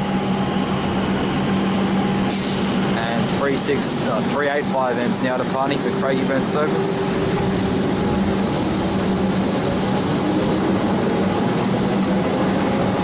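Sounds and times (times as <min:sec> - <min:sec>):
electric train pulling out: 0:00.0 - 0:13.0
low hum: 0:00.0 - 0:13.0.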